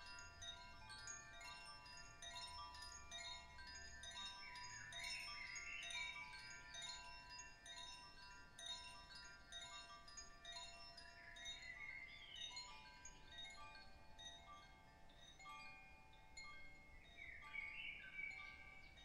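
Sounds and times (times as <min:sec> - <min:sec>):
soft chimes ringing: 0:00.0 - 0:19.0.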